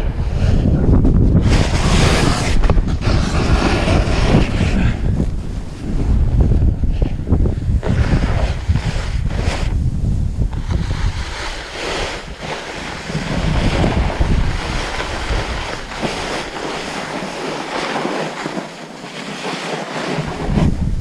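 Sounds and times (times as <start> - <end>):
snowboard scraping over snow: 0.0 - 21.0
wind rumbling on microphone: 0.0 - 21.0.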